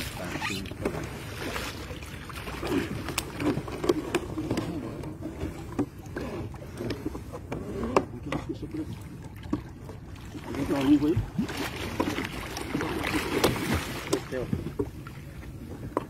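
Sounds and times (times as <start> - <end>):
boat low rumble: 0.0 - 16.0.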